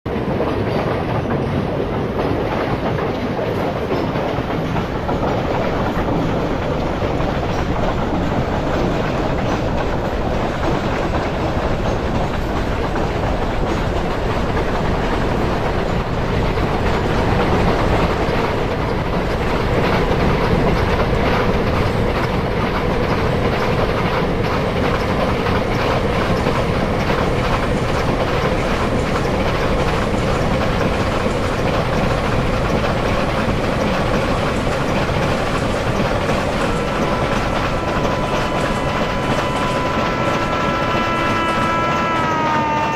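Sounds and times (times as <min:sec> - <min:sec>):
train rumbling along track: 0:00.1 - 0:42.9
wheels clacking over rail joints: 0:00.1 - 0:42.9.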